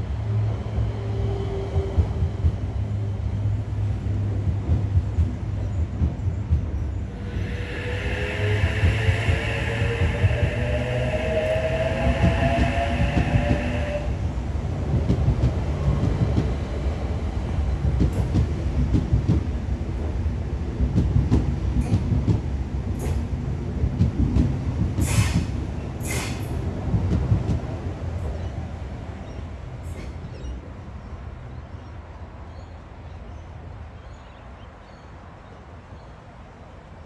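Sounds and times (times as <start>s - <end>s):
train wheels rumbling on rail: 0.0s - 32.7s.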